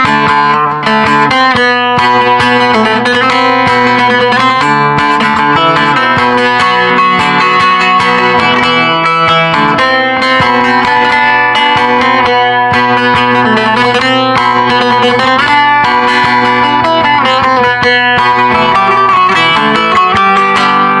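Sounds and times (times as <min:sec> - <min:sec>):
long-necked lute plucked notes: 0:00.0 - 0:21.0.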